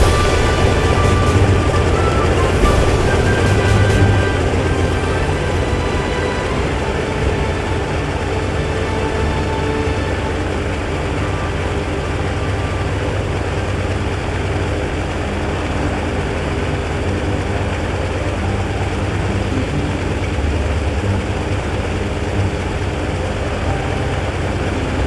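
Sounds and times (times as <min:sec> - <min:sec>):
radial engine and propeller running: 0:00.0 - 0:25.0.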